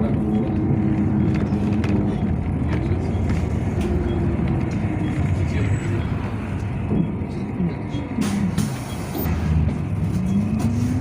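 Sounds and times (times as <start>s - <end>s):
bus engine humming: 0.0s - 11.0s.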